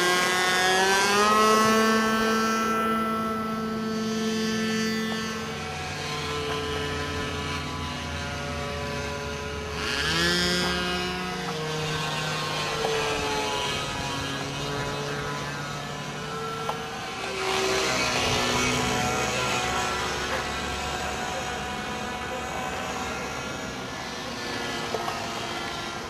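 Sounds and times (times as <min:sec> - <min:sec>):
model airplane engine buzzing: 0:00.0 - 0:26.0.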